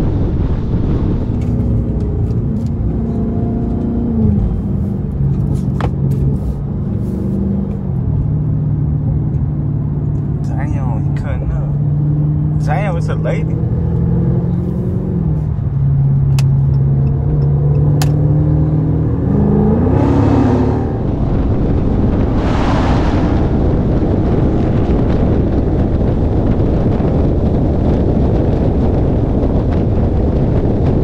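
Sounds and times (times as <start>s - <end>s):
car engine accelerating: 0.0s - 31.0s
road noise: 0.0s - 31.0s
wind rushing over microphone: 0.0s - 31.0s.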